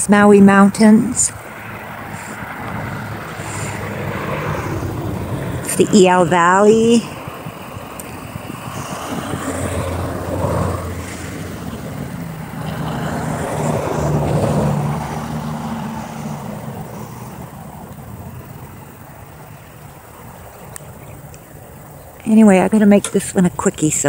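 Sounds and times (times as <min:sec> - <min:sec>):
passing engine hum: 0:00.0 - 0:24.0.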